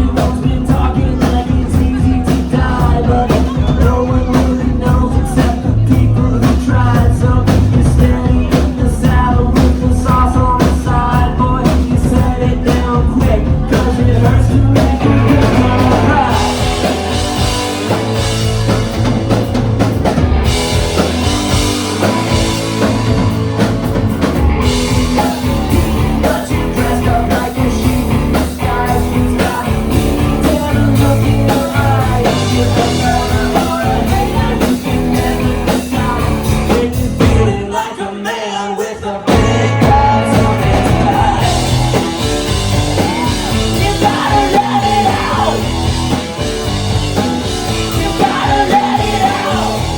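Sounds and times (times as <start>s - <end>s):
person singing: 0.0s - 19.6s, 20.4s - 49.9s
rock band playing live: 0.0s - 38.0s, 39.2s - 49.9s.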